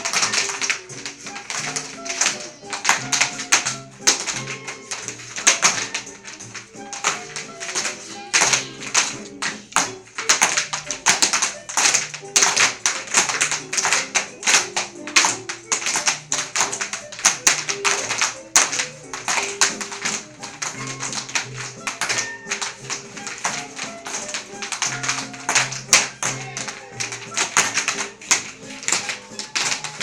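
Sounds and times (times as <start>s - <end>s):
recorded dance music: 0.0s - 30.0s
tap shoes clattering on wooden floor: 0.0s - 30.0s.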